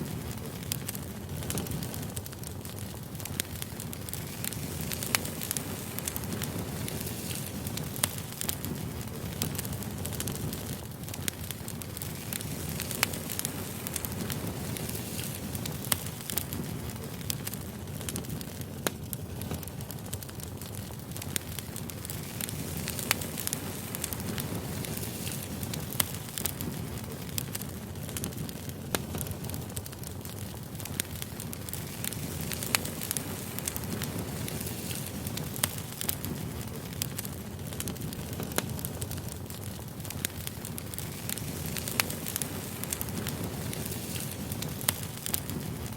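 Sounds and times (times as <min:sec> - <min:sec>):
campfire crackling and popping: 0:00.0 - 0:45.9
low rush of flame: 0:00.0 - 0:45.9.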